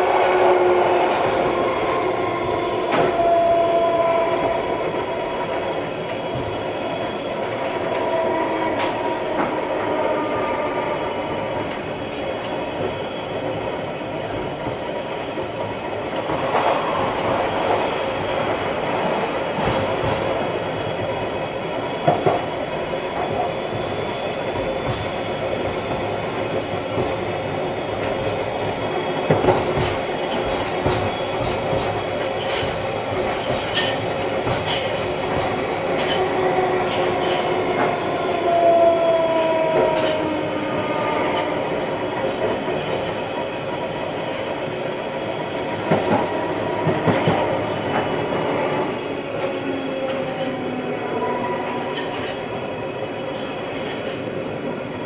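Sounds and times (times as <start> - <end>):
train rumble: 0.0 - 55.0.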